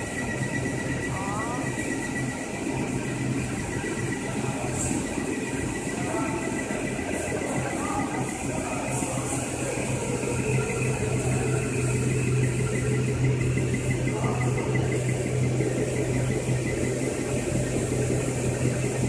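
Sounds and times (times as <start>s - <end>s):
vibration shaker humming: 0.0s - 19.0s.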